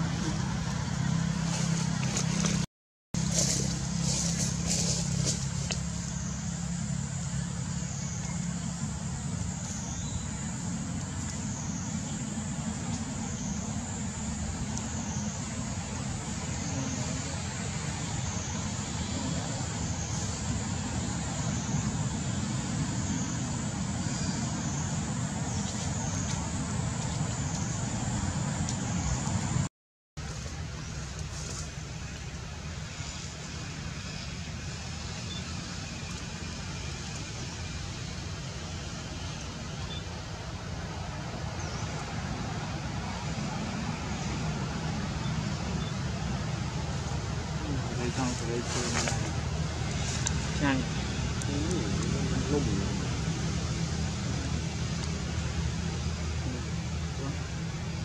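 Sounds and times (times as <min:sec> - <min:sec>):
high even whine: 0:00.0 - 0:58.0.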